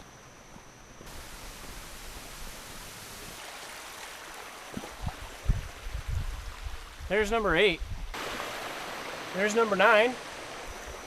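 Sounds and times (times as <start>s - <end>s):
stream flowing: 1.1s - 11.0s.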